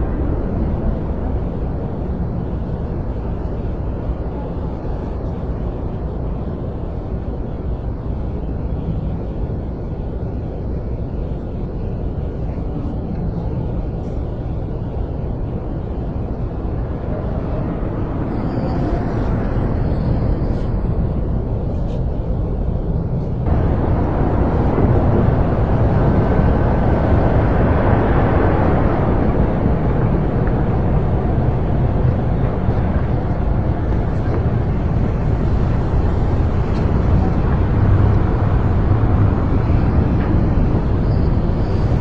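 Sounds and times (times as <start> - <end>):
distant traffic rumble: 0.0 - 42.0.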